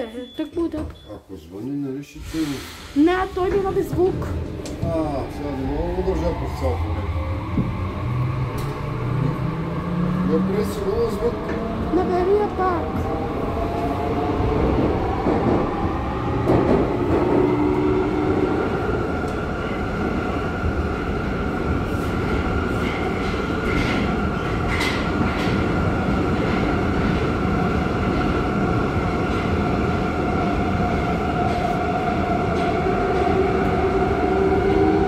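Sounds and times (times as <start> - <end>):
train wheels rumbling on rails: 2.3 - 35.0.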